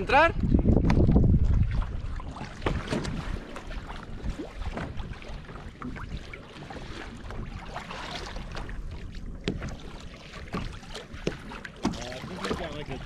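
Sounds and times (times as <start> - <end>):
wind rumbling on microphone: 0.0 - 11.5
water splashing against kayak hull: 0.0 - 13.0.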